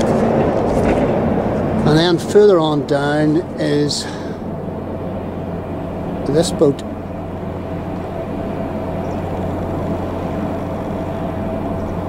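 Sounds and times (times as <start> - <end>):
faint constant whine: 0.0 - 12.0
low mechanical hum: 0.0 - 12.0.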